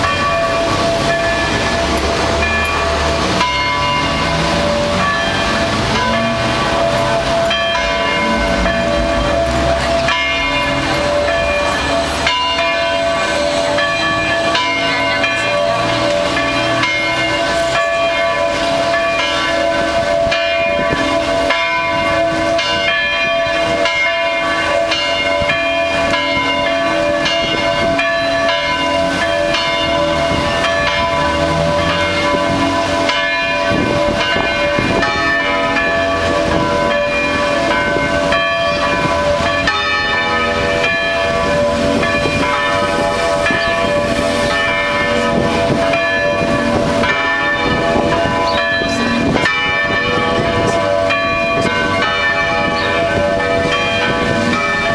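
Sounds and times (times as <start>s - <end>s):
carillon bells playing a melody: 0.0s - 54.9s.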